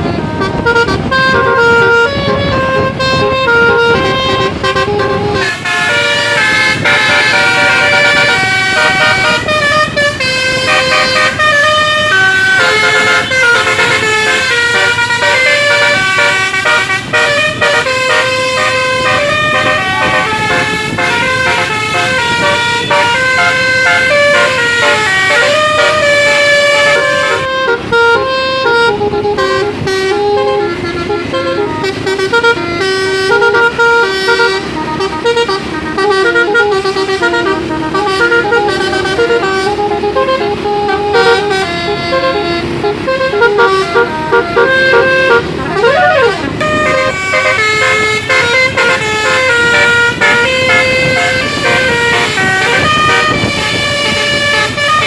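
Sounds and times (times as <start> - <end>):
lower-pitched bus horns: 0.0 - 55.0
multi-tone bus air horns: 0.0 - 55.0.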